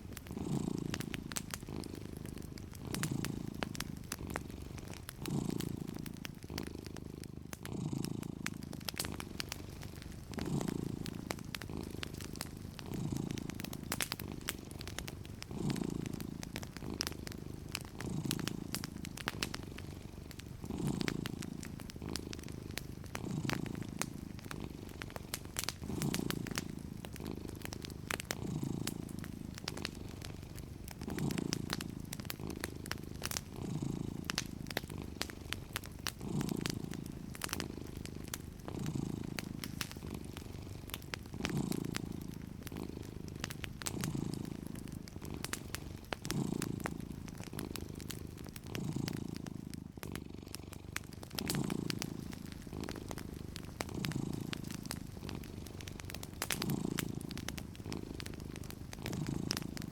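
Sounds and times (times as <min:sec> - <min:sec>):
cat purring: 0:00.0 - 0:59.9
wood fire popping and crackling: 0:00.0 - 0:59.9.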